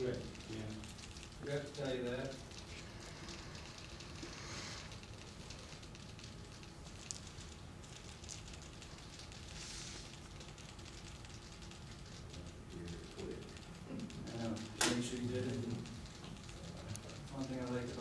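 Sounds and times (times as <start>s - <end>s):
room hiss: 0.0s - 18.0s.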